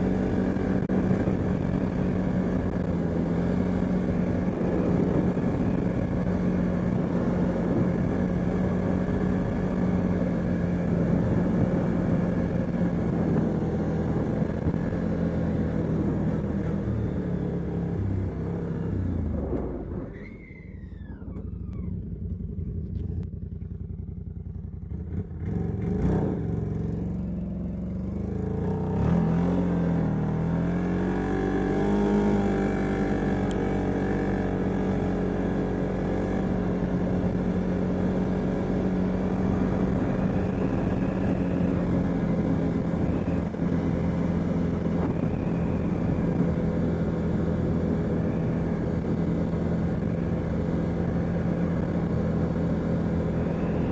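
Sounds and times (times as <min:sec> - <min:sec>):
quad bike engine running: 0:00.0 - 0:53.9.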